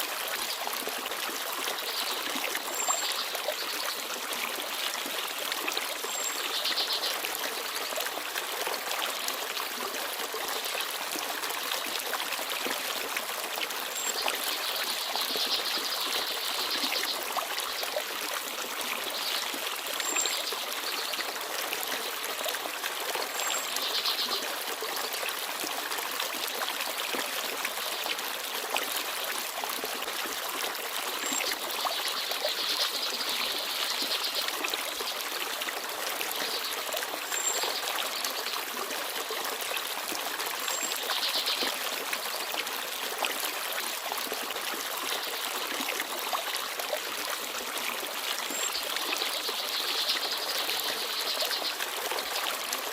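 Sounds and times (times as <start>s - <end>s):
stream babbling over stones: 0.0s - 52.9s.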